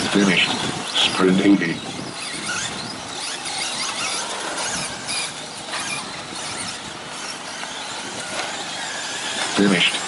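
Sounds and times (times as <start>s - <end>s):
electric motors whining: 0.0s - 10.0s
tyres scrabbling on dirt: 0.0s - 10.0s.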